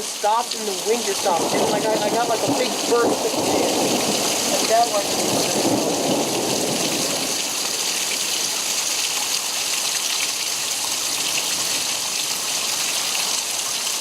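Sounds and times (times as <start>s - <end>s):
steady rain hiss: 0.0s - 14.0s
ticks of raindrops: 0.0s - 14.0s.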